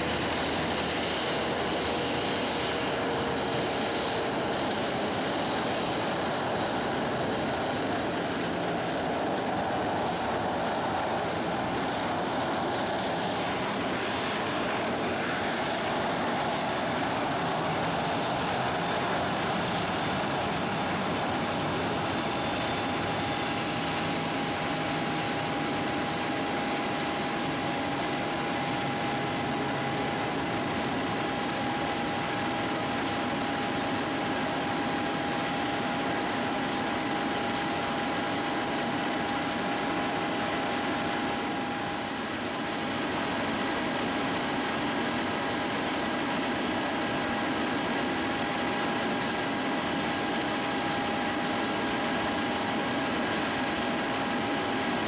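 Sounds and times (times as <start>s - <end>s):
jet engines hiss and whine: 0.0s - 55.0s.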